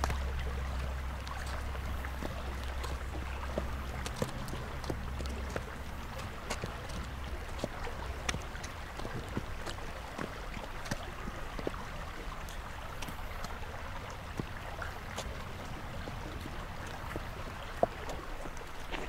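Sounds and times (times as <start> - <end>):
horse hooves crunching on gravel: 0.0 - 19.0.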